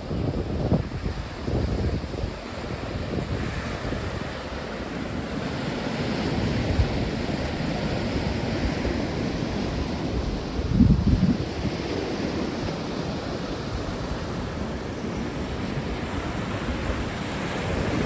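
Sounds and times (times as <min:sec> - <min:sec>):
sea waves breaking: 0:00.0 - 0:18.0
wind buffeting microphone: 0:00.0 - 0:18.0.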